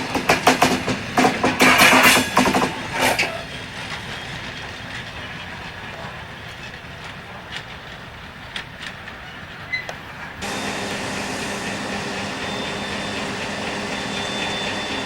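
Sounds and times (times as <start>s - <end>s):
train low rumble: 0.0s - 15.0s
train wheels clacking over rail joints: 0.0s - 15.0s.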